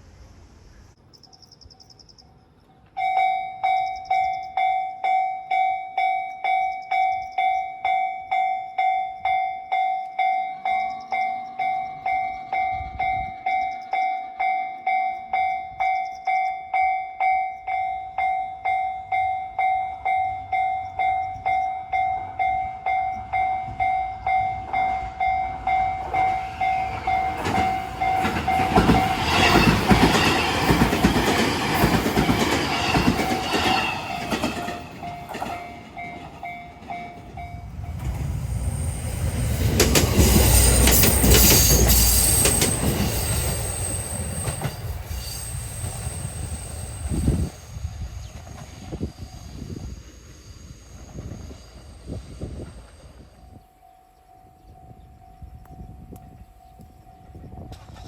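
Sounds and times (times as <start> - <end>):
train rumble and wheel clatter: 2.5 - 58.0
level crossing warning bell: 2.8 - 47.8, 52.8 - 58.0.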